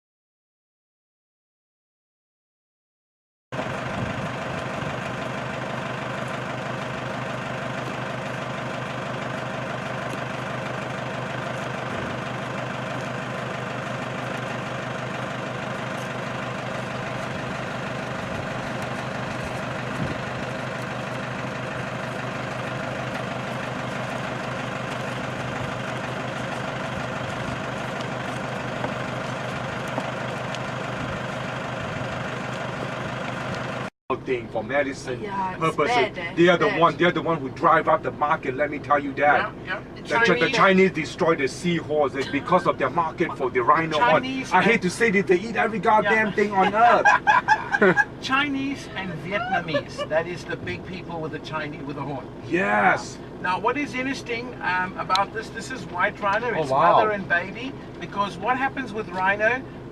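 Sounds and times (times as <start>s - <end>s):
vehicle engine idling: 3.6s - 59.9s.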